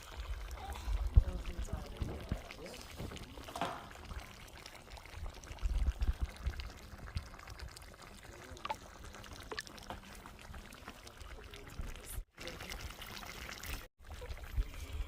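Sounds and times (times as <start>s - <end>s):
liquid pouring: 0.0s - 15.0s.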